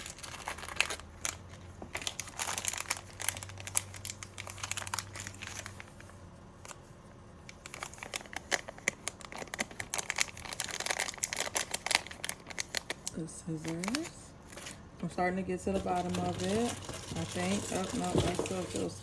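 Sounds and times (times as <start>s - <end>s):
packaging crinkling and rustling: 0.0s - 14.9s, 15.7s - 19.0s.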